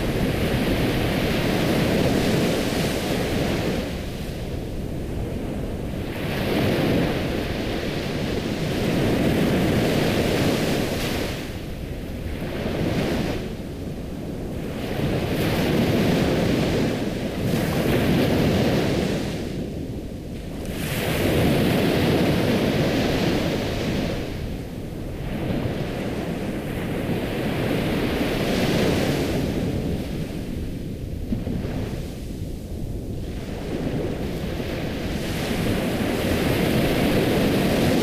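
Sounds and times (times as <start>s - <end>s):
ocean waves washing onto shore: 0.0s - 38.0s.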